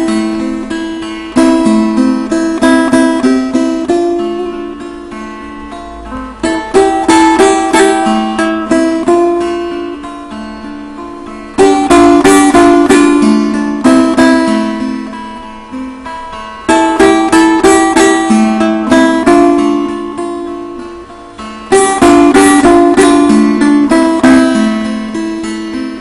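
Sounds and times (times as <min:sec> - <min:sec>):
plucked long-necked lute: 0:00.0 - 0:26.0.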